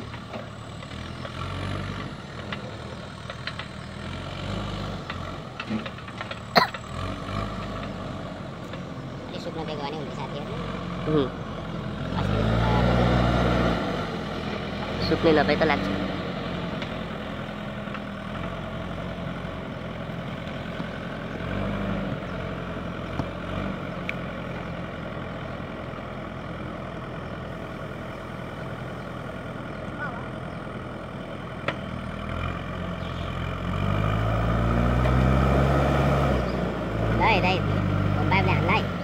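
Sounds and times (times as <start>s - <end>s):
diesel engine idling and revving: 0.0s - 39.0s.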